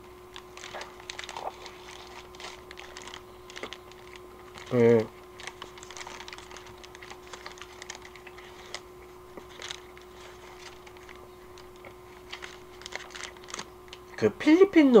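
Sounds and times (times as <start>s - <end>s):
paper wrapper rustling: 0.3s - 13.9s
person chewing: 0.3s - 14.2s.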